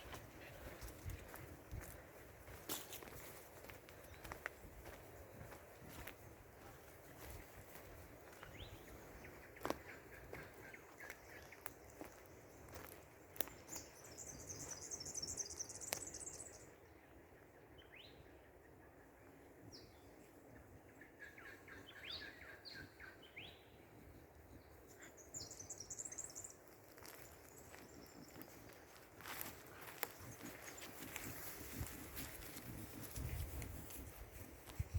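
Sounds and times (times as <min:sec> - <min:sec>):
small birds chirping: 0:00.0 - 0:16.9, 0:19.7 - 0:33.7.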